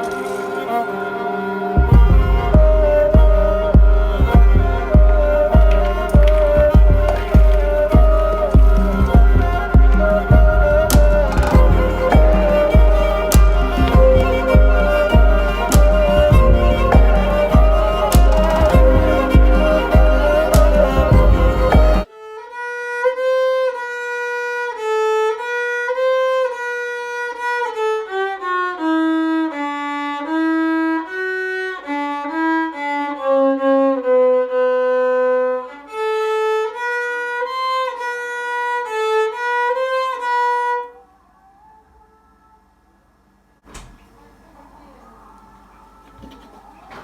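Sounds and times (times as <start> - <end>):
bowed fiddle slow melody: 0.0 - 41.0.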